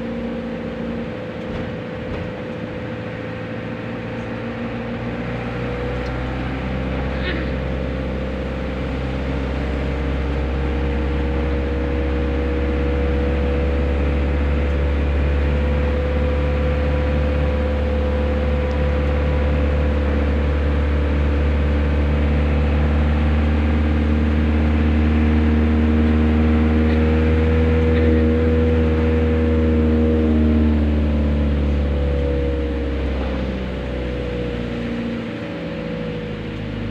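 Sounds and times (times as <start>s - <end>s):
road noise: 0.0s - 36.9s
vehicle engine hum: 0.0s - 36.9s.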